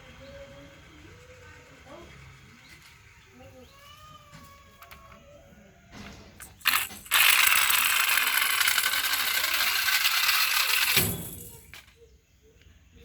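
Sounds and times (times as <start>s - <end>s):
toy vehicle rattling down a track: 0.0s - 5.3s, 6.0s - 12.0s.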